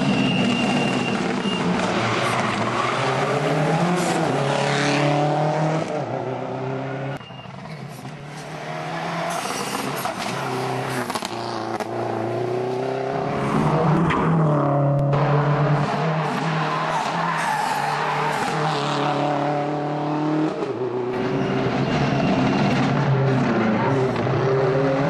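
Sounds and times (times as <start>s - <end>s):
rally car engine revving: 0.0s - 7.2s, 8.2s - 25.0s.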